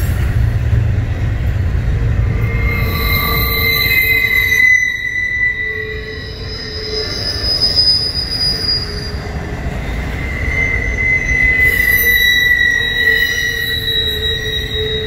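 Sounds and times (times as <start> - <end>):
train low rumble: 0.0 - 15.0
train wheels squealing on rail: 0.0 - 15.0.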